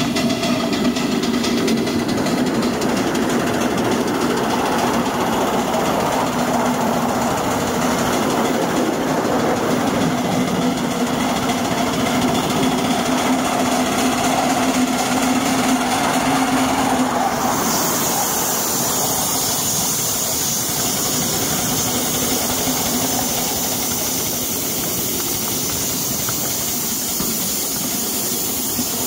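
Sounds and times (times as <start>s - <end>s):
miniature steam locomotive running: 0.0s - 29.0s.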